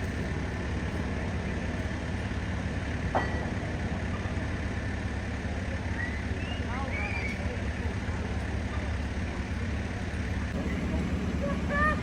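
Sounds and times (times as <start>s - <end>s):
large vehicle engine idling: 0.0s - 12.0s.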